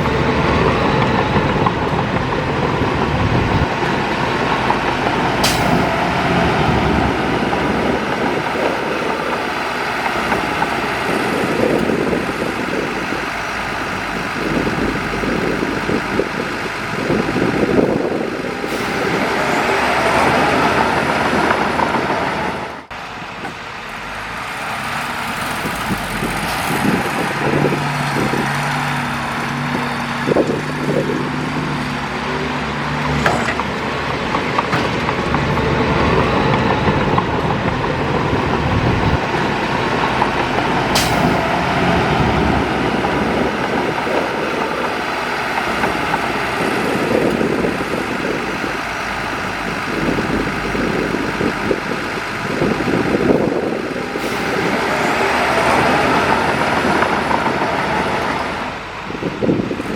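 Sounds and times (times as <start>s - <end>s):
heavy diesel machinery working: 0.0s - 59.9s.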